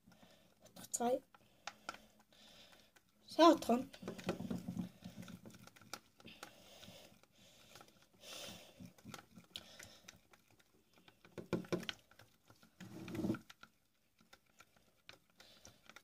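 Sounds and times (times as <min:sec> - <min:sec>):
stirring slime: 0:00.0 - 0:16.0.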